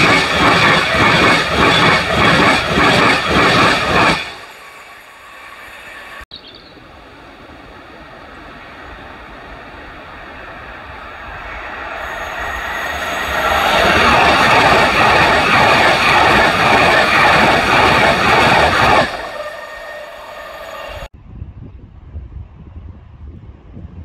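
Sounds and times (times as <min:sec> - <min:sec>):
passenger train passing: 0:00.0 - 0:21.2.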